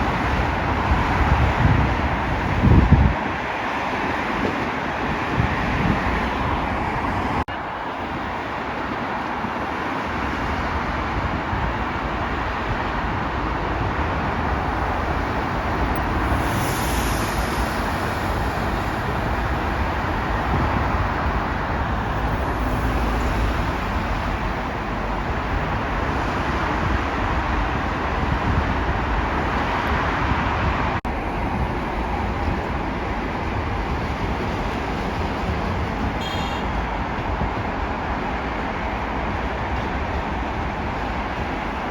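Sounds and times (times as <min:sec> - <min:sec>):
high-speed train rushing: 0:00.0 - 0:41.9.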